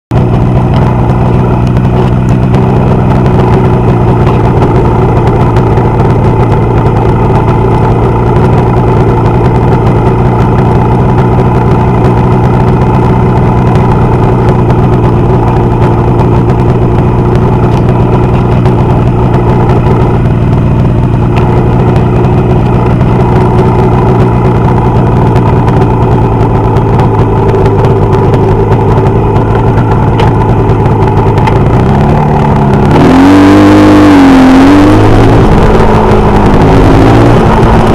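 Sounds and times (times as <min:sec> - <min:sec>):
motorcycle engine idling: 0:00.1 - 0:37.9.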